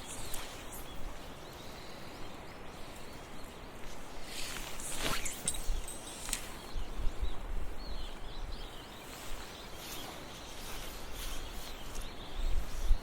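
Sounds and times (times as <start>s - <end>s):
small bird singing: 0.0s - 13.0s.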